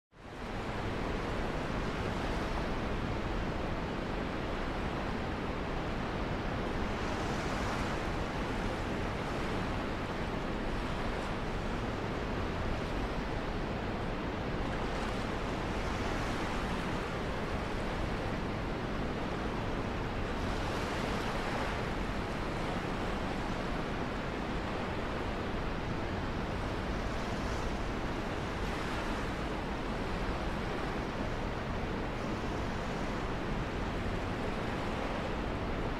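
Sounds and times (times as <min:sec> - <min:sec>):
water rushing along a hull: 0:00.1 - 0:35.9
wind: 0:00.1 - 0:35.9.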